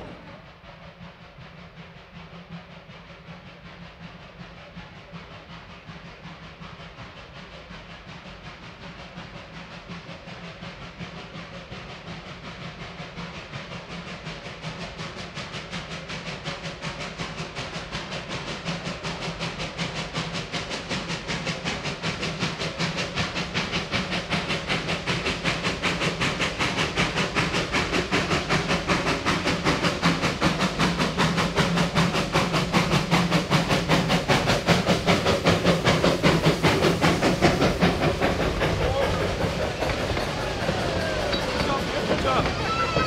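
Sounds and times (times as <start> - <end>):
steam locomotive chuffing: 0.0 - 43.0.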